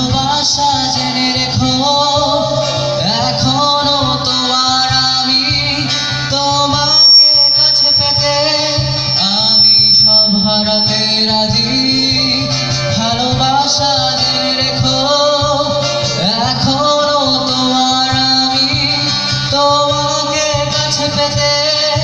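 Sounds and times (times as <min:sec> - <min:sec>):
electric and acoustic guitars: 0:00.0 - 0:22.0
man singing: 0:00.0 - 0:22.0.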